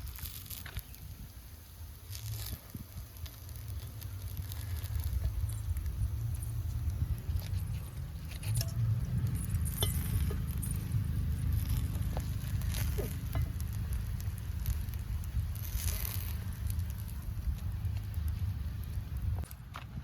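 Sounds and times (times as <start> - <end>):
batter sizzling in pan: 0.0 - 19.5
steady low rumble: 1.2 - 20.0.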